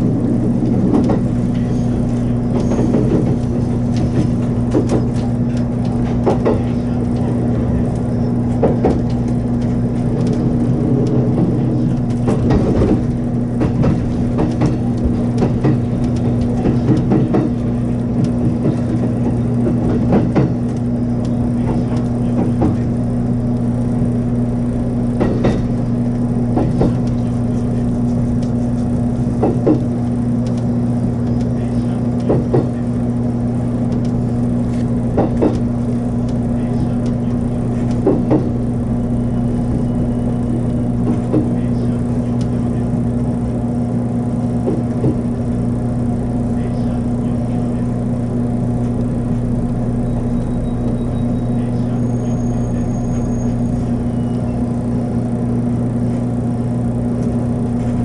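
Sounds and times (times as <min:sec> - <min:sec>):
rail-joint clacks: 0:00.0 - 0:55.0
electric train hum: 0:00.0 - 0:58.0.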